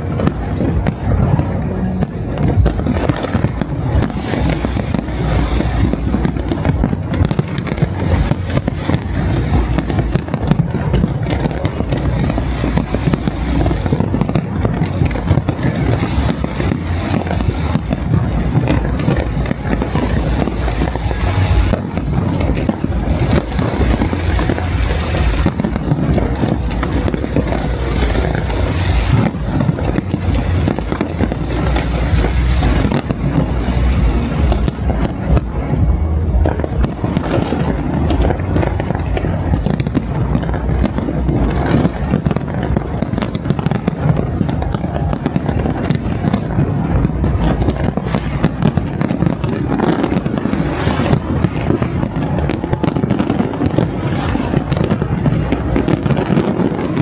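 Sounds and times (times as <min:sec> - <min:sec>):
fireworks bursting: 0:00.0 - 0:57.0
music playing: 0:00.0 - 0:57.0.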